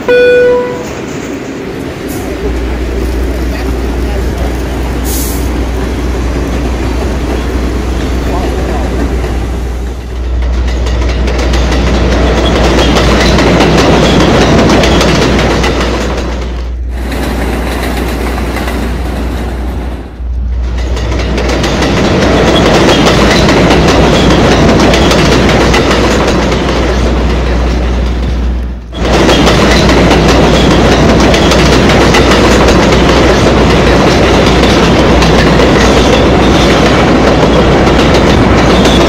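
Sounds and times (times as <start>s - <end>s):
subway train rolling: 0.0s - 39.0s.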